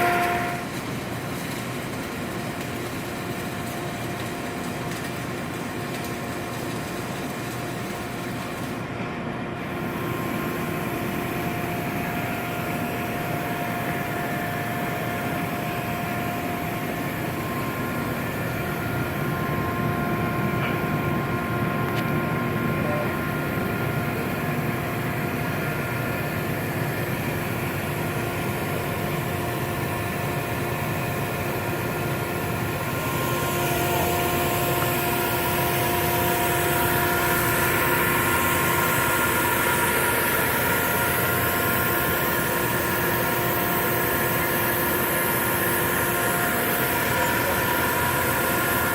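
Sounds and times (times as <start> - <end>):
industrial machinery hiss and rumble: 0.0 - 48.9
steady humming tones: 0.0 - 48.9.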